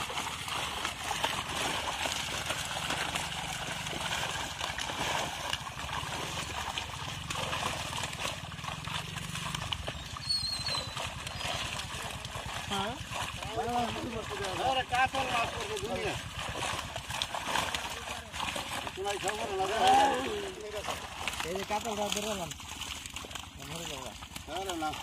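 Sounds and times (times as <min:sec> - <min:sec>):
fish thrashing and splashing: 0:00.0 - 0:25.0.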